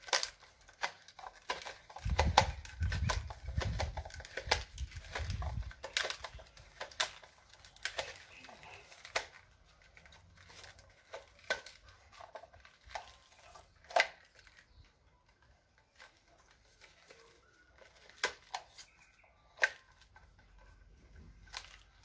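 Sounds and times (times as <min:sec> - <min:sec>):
sharp plastic clicks: 0:00.0 - 0:20.7
nylon line rustling: 0:00.0 - 0:22.0.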